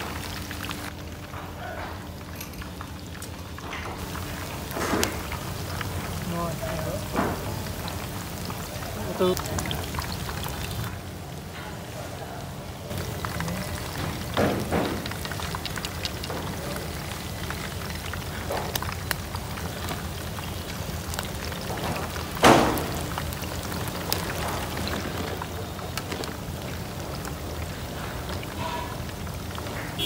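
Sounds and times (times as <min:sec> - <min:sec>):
shrimp sizzling in hot oil: 0:02.4 - 0:10.9, 0:12.9 - 0:30.0.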